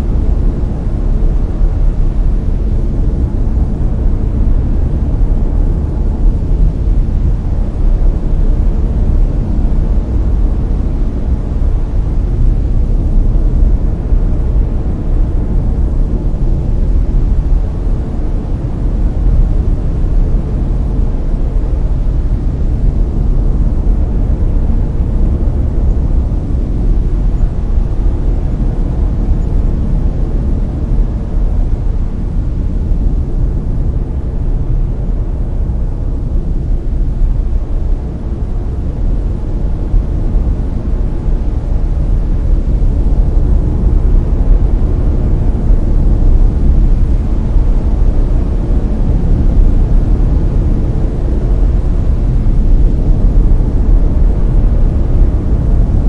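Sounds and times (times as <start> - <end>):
brown noise rushing hiss: 0.0 - 56.0.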